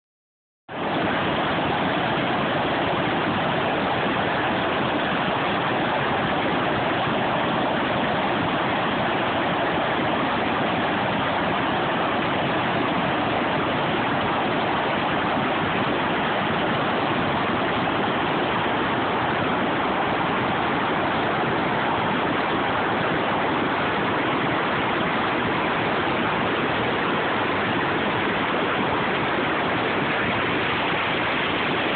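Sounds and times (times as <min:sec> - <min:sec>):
water rushing over rocks: 0:00.7 - 0:31.9.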